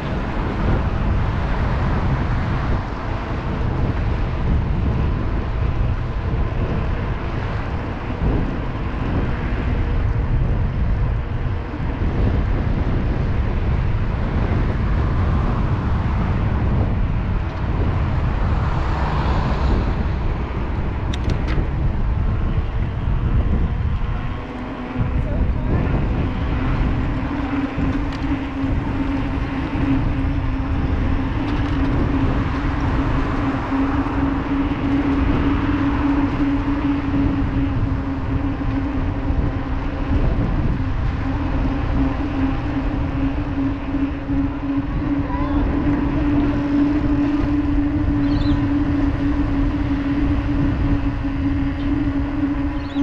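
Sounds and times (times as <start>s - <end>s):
wind rushing over camera: 0.0s - 53.0s.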